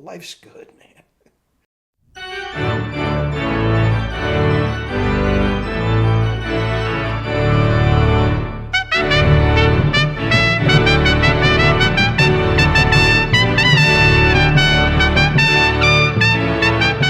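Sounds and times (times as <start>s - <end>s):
organ music: 2.1s - 17.0s
trumpet music: 2.2s - 17.0s.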